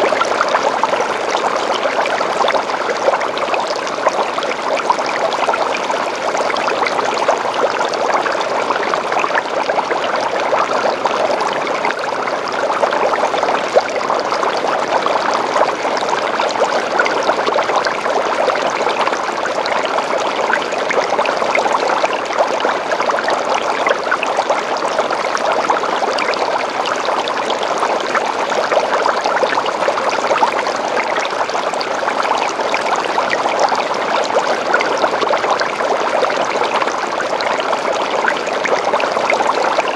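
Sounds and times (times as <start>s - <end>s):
bubbling water in an aquarium: 0.0s - 39.9s.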